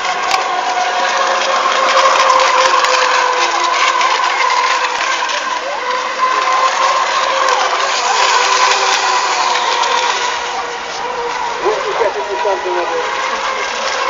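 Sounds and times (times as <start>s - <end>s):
electric model boat motors whining: 0.0s - 14.0s.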